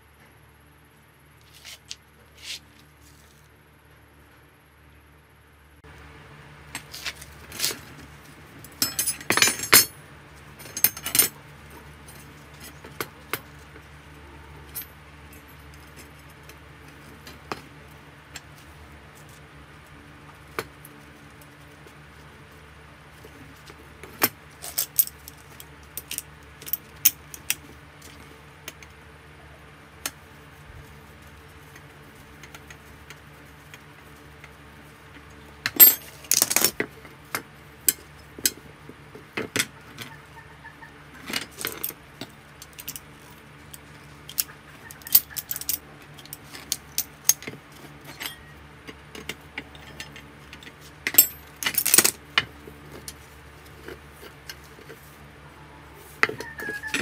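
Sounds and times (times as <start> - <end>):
steady low hum: 0.0 - 56.4.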